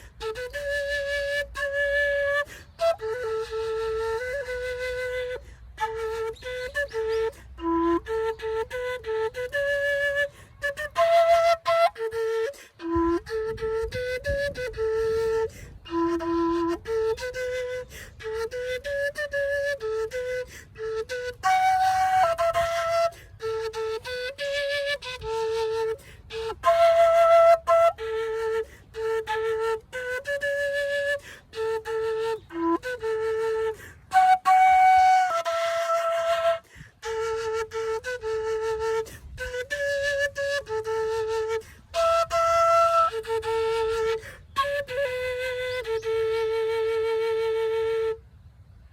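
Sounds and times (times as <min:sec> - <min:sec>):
end-blown flute melody: 0:00.0 - 0:48.4.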